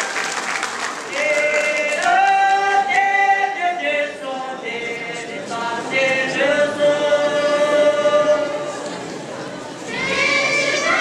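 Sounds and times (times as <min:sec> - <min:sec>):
children's choir singing: 0:01.0 - 0:11.0.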